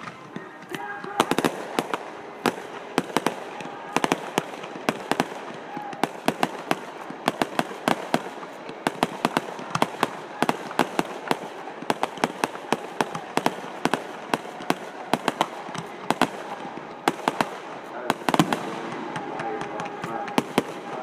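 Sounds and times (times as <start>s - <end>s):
fireworks banging: 0.0s - 21.0s.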